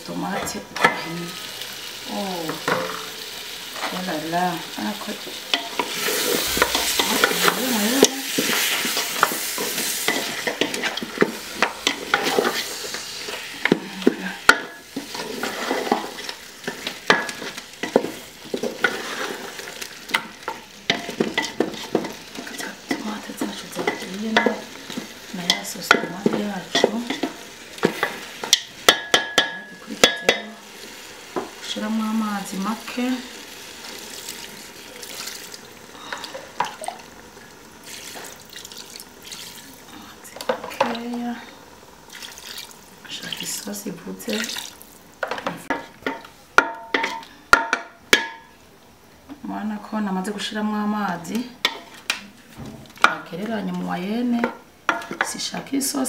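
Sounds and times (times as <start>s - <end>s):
sauce sizzling in pot: 0.0s - 56.0s.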